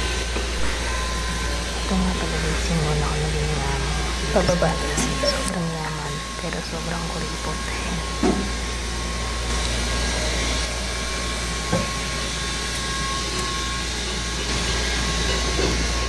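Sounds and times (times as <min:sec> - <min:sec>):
stairlift motor humming and whining: 0:00.0 - 0:16.0.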